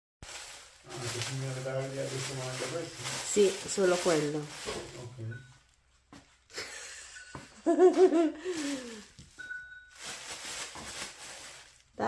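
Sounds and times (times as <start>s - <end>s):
soft rustling hiss: 0.2s - 12.0s.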